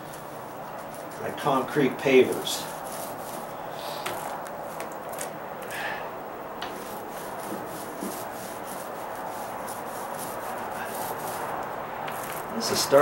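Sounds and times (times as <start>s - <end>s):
paint roller rubbing on board: 0.0s - 4.9s, 6.6s - 13.0s.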